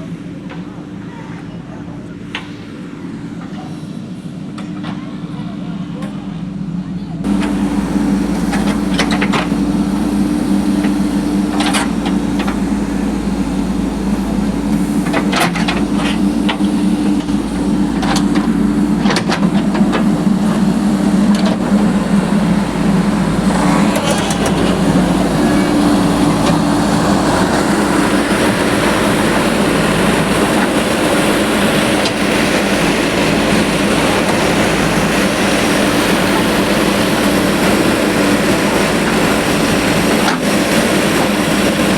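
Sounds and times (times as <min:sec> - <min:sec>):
construction machinery engine running: 0:00.0 - 0:41.9
rushing grinding noise: 0:07.2 - 0:41.9.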